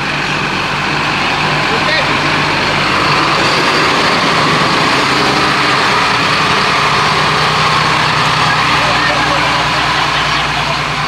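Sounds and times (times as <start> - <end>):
fire truck engine running: 0.0 - 11.0.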